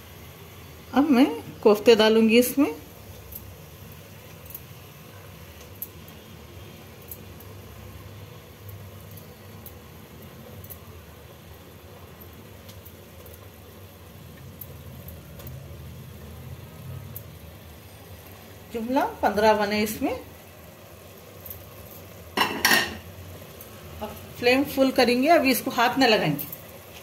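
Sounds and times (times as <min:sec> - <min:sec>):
gravy crackling in a pot: 0:00.0 - 0:27.0
low kitchen hum: 0:00.0 - 0:27.0.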